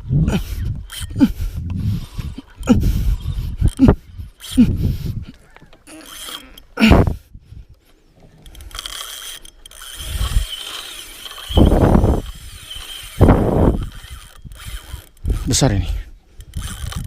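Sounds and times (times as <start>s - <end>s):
fishing reel gears whirring: 0.3s - 6.9s, 8.4s - 17.0s.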